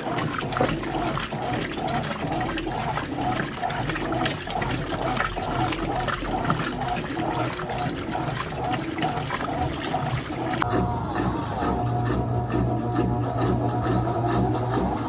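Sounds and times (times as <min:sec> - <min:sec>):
washing machine sloshing water: 0:00.0 - 0:15.0.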